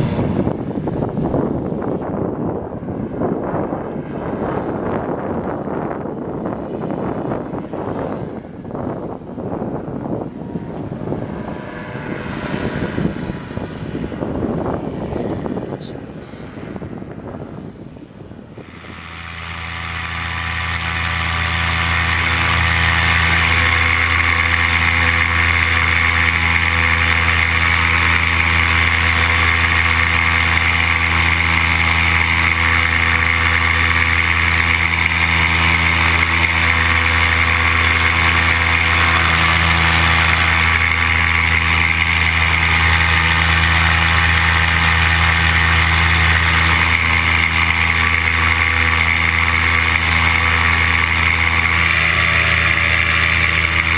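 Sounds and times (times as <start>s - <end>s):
paramotor engine drone: 0.0s - 53.9s.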